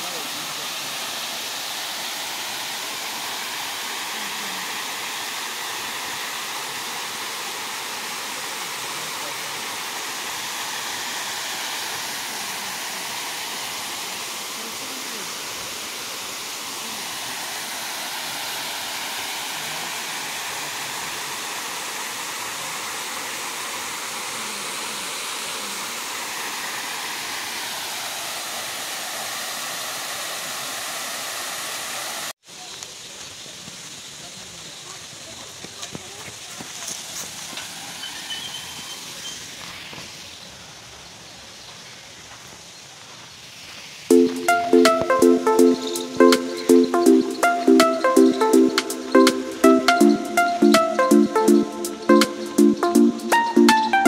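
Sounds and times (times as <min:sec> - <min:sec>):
waterfall over rocks: 0:00.0 - 0:51.0.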